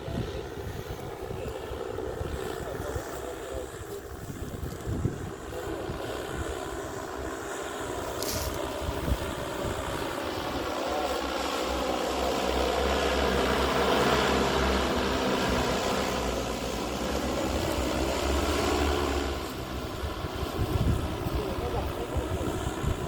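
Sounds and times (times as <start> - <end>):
drone rotors humming: 0.0 - 23.0.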